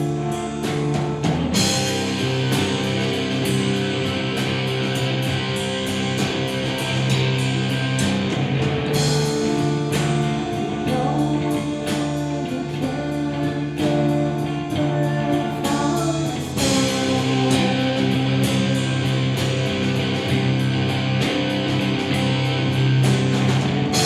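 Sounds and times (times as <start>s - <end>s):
rock band playing: 0.0s - 24.0s.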